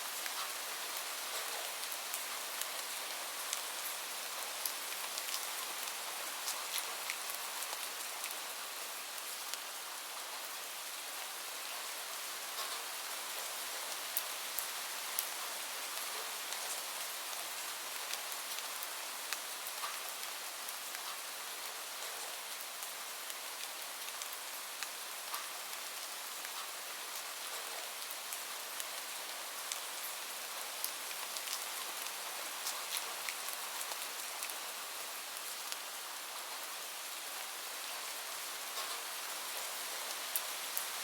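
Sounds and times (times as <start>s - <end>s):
gentle rain falling: 0.0s - 41.0s.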